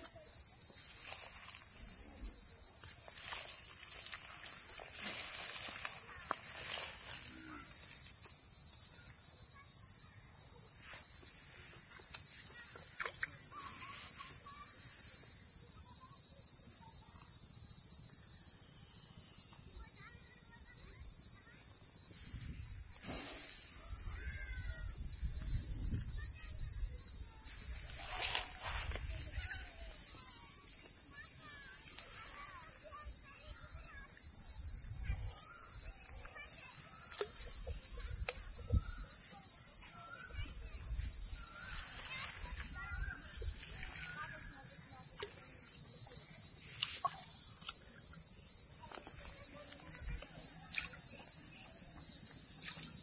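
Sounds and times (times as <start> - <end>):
faint chirps: 0.0 - 53.0
high-pitched insect chorus: 0.0 - 53.0.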